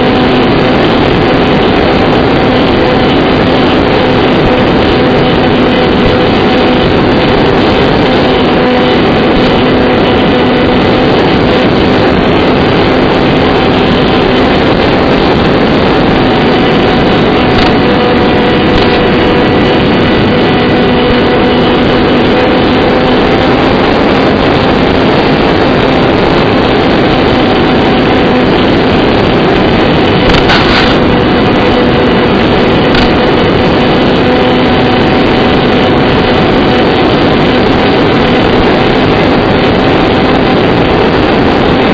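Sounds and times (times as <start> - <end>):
wind noise: 0.0 - 41.9.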